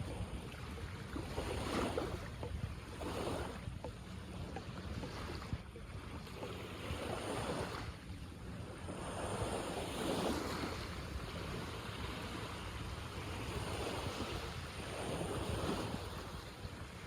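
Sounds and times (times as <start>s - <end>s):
sea waves washing in: 0.0s - 17.0s
wind rumbling on microphone: 0.0s - 17.0s.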